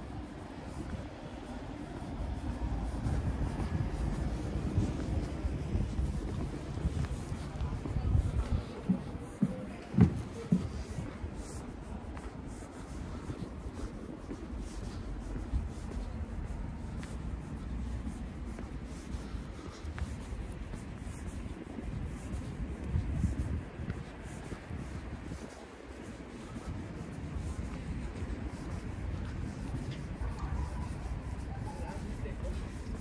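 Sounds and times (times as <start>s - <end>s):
footsteps on stone paving: 0.0s - 33.0s
wind rumble on microphone: 0.0s - 33.0s.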